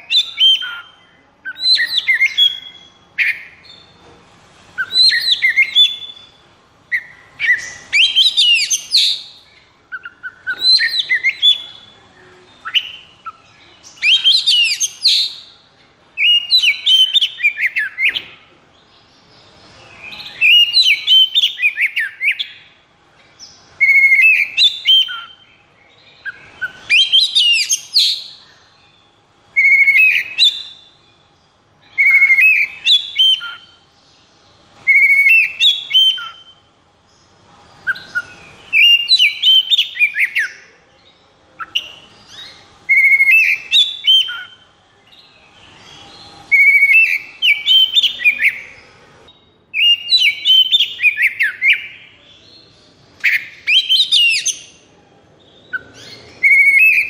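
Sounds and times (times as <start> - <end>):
bird whistling song: 0.0 - 4.0, 4.8 - 18.5, 19.6 - 22.8, 23.4 - 28.9, 29.5 - 31.2, 31.8 - 33.8, 34.8 - 36.7, 37.8 - 40.7, 41.6 - 48.8, 49.7 - 52.2, 53.2 - 54.8, 55.7 - 57.0.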